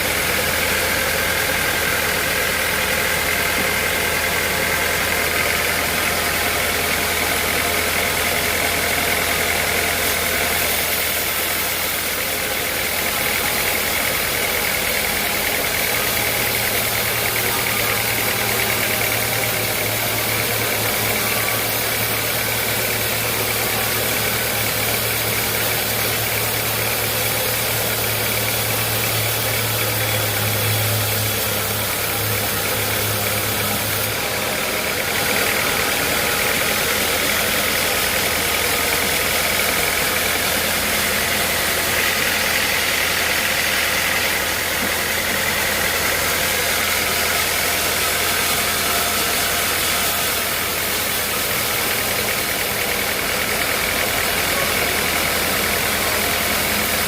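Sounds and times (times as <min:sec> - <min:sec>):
high machinery hiss: 0:00.0 - 0:57.0.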